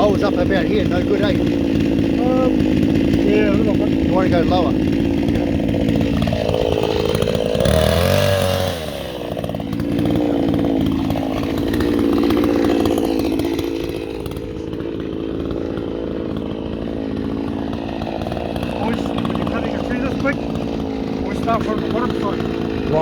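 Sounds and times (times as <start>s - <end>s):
chainsaw cutting tree trunk: 0.0s - 23.0s.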